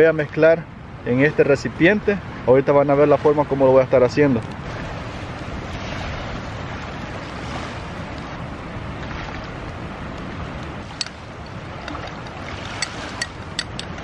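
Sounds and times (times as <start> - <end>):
strong wind on microphone: 0.6 - 14.0.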